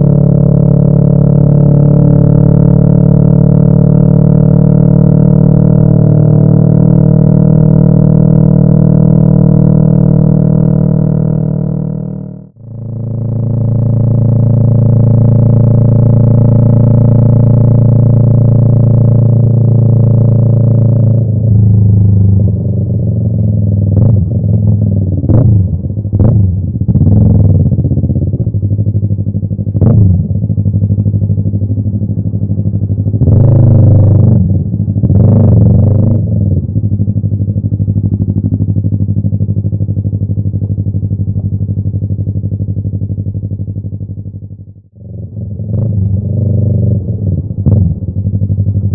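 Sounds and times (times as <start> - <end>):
motorcycle engine revving: 0.0 - 44.2, 45.0 - 48.9.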